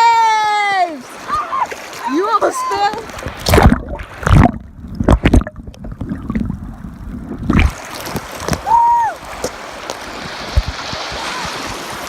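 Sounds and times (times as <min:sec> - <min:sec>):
river water sloshing: 0:00.0 - 0:12.0.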